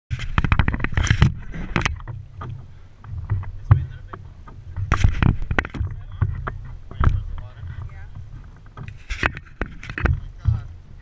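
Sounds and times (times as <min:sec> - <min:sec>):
water slapping against boat hull: 0:00.1 - 0:11.0
low steady rumble: 0:00.2 - 0:11.0.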